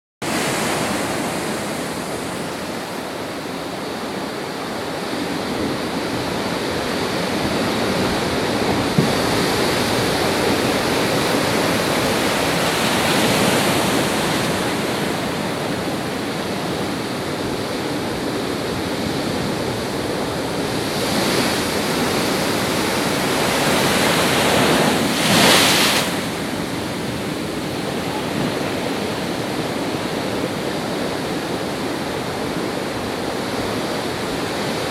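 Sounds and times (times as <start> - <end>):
waves breaking: 0.2 - 34.9.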